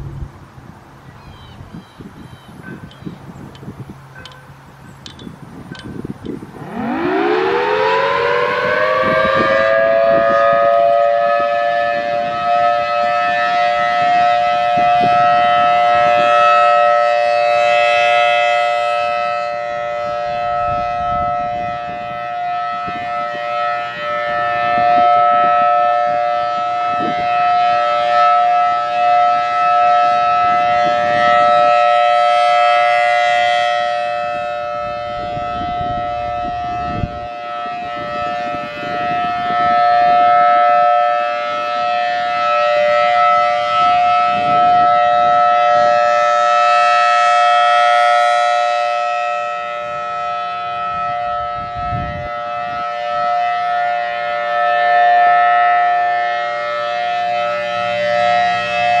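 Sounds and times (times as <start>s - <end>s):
wind rumbling on microphone: 0.0s - 59.0s
rotating siren steady tone: 0.9s - 59.0s.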